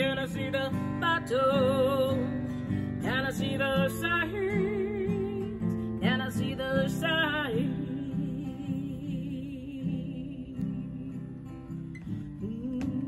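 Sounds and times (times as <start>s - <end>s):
woman singing with vibrato: 0.0s - 11.5s, 12.1s - 13.0s
strummed acoustic guitar: 0.0s - 13.0s.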